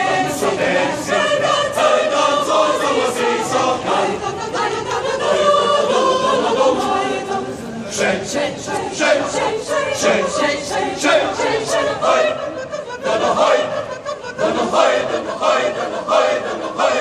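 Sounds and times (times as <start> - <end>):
mixed choir singing a cappella: 0.0 - 17.0.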